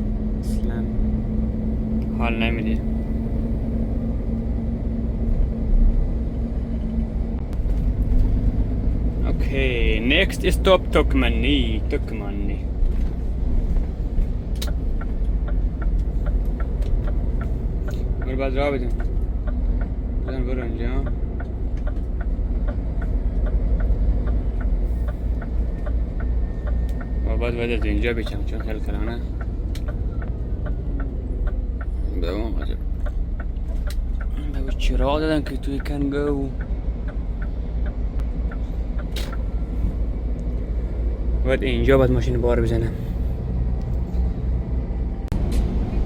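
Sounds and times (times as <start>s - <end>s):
truck diesel engine running: 0.0s - 46.0s
light regular ticking: 6.9s - 44.3s.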